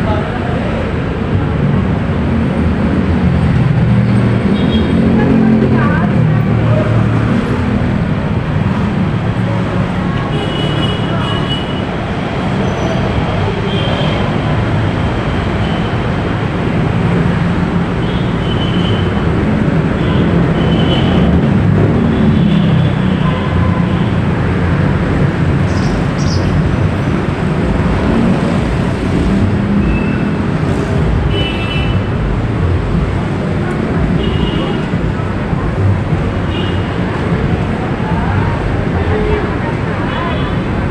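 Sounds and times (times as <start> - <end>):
traffic rumble of engines and tyres: 0.0 - 40.9.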